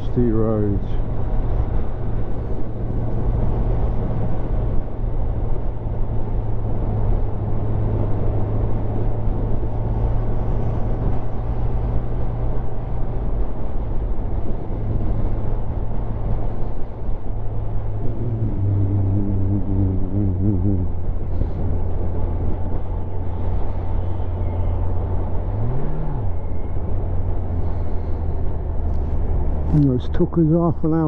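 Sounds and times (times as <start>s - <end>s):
motorcycle engine drone: 0.0s - 31.0s
wind rush: 0.0s - 31.0s.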